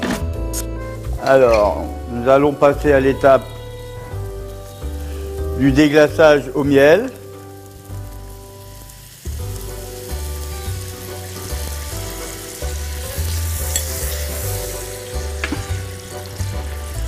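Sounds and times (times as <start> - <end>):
soft background music: 0.0 - 17.0
meat sizzling in a frying pan: 1.0 - 17.0.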